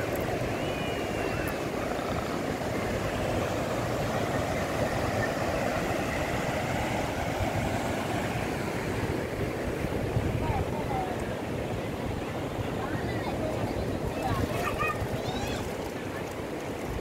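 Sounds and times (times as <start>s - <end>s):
ocean surf breaking on beach: 0.0s - 17.0s
wind on microphone: 0.0s - 17.0s.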